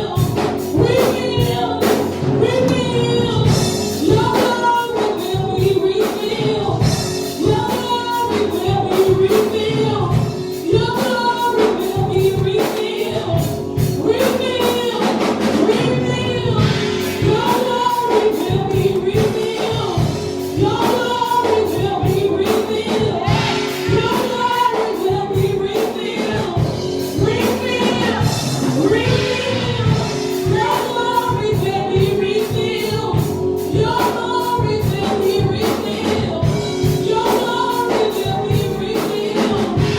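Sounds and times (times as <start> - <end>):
gospel choir singing over a beat: 0.0 - 39.9.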